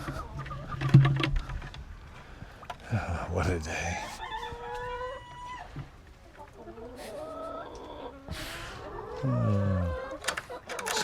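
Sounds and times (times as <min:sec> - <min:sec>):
chickens clucking: 0:00.0 - 0:02.0, 0:02.6 - 0:11.0.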